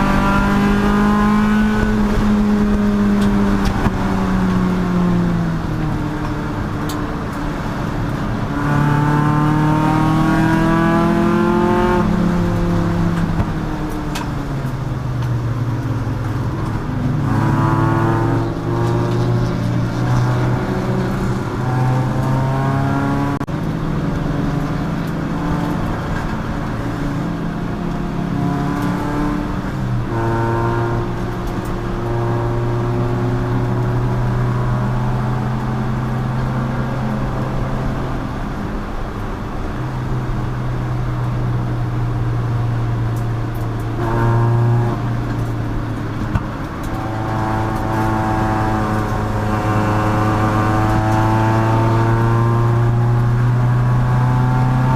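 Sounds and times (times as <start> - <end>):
race car engine accelerating: 0.0 - 14.4, 15.2 - 39.1, 42.0 - 54.9.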